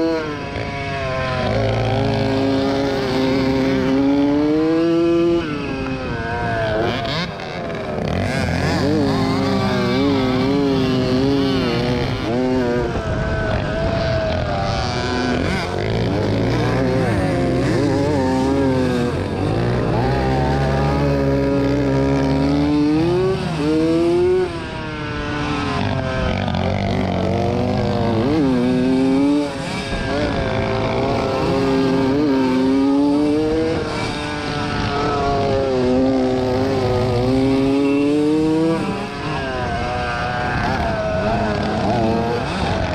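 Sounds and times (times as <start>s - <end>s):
two-stroke motocross engine revving: 0.0s - 42.9s.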